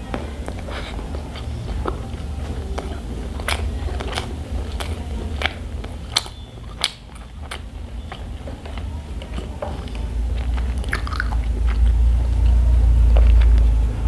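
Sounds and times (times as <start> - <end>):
low steady hum: 0.0 - 14.0
person chewing crisp food: 0.0 - 14.0.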